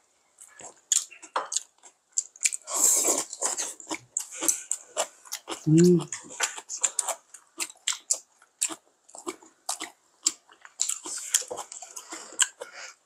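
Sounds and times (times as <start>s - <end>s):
people chewing and crunching food: 0.0s - 13.0s.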